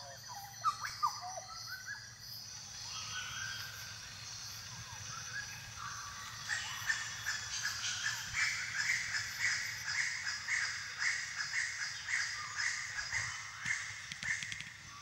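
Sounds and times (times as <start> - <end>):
high-pitched natural ambience: 0.0 - 15.0.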